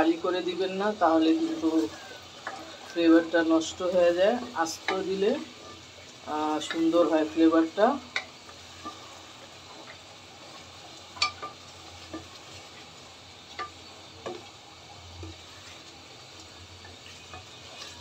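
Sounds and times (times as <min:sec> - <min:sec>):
sauce sizzling: 0:00.0 - 0:18.0.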